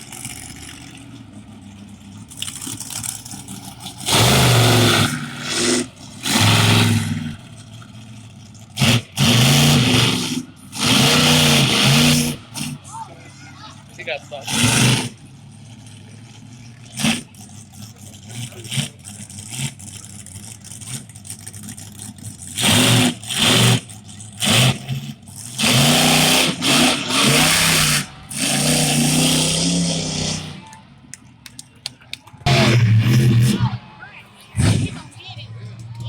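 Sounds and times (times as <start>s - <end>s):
truck engine revving: 0.0s - 36.0s.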